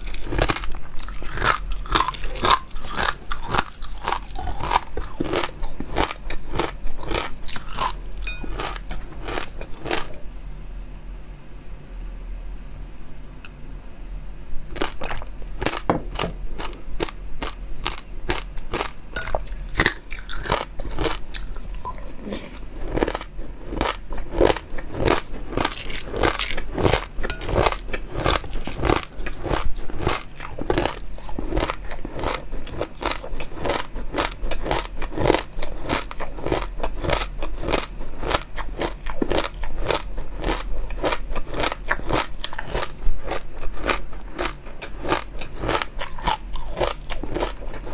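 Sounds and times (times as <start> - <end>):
crunching and chewing food: 0.0 - 10.3, 14.7 - 47.9.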